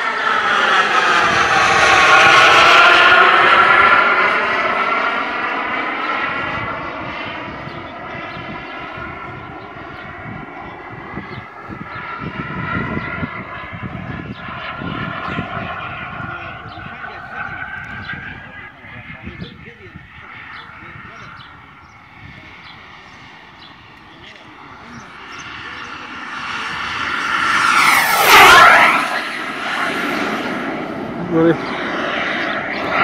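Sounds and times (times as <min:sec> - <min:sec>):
model jet engine whine: 0:00.0 - 0:33.0.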